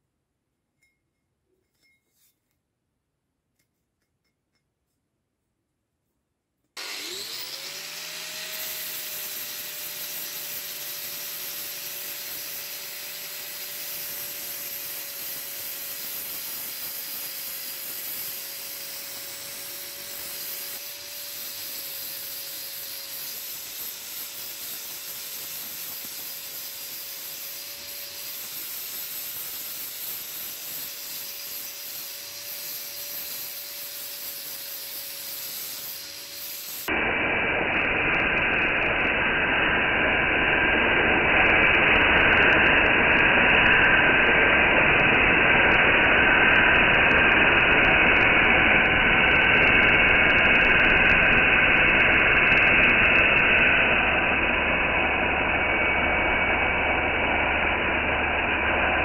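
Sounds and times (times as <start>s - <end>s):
angle grinder grinding steel: 6.8s - 59.0s.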